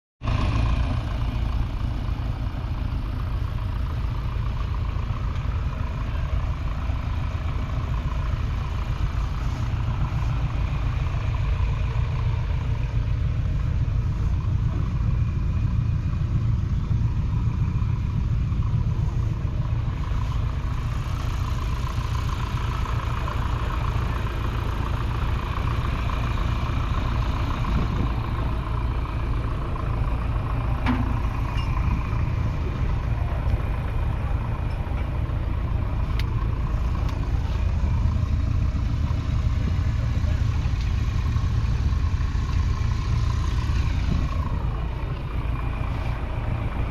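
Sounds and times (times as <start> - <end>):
tractor diesel engine running: 0.2 - 46.9.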